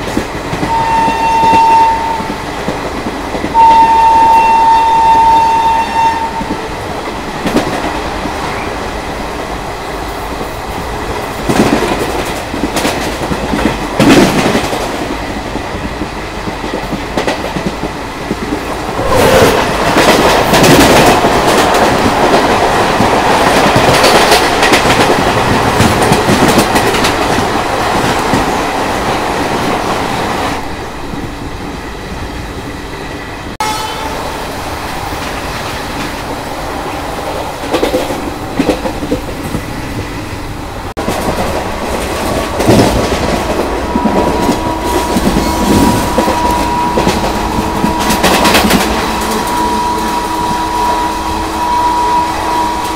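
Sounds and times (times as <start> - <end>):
train passing close: 0.0 - 52.9
wind rush: 6.4 - 52.9.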